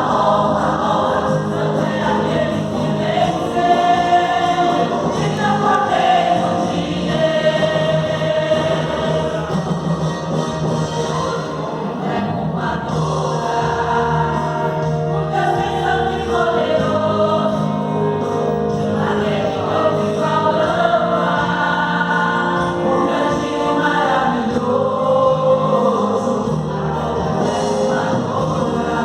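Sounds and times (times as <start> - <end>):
church choir singing gospel: 0.0 - 29.0
instrumental accompaniment: 0.0 - 29.0.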